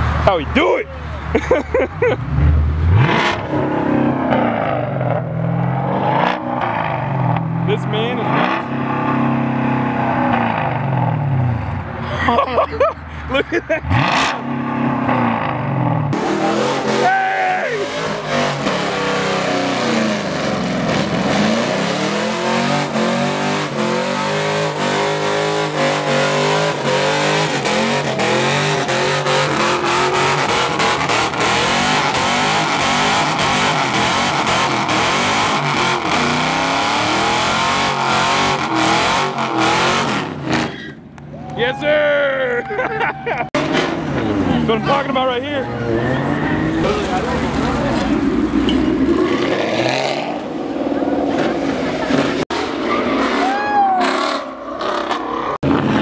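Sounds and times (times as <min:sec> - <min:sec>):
car engine revving high: 0:02.1 - 0:11.7, 0:13.8 - 0:40.9, 0:43.6 - 0:56.0.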